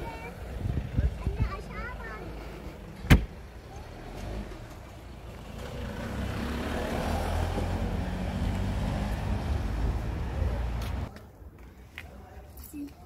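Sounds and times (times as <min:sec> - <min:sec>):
vehicle engine rumbling: 0:00.0 - 0:11.2.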